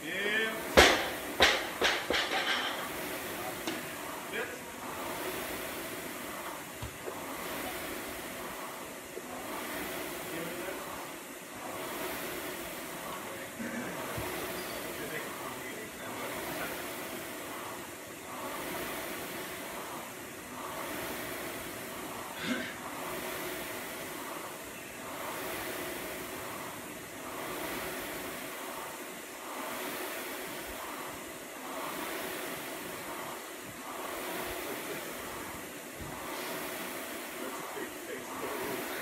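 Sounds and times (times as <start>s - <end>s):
rowing machine flywheel whooshing: 0.0s - 39.0s.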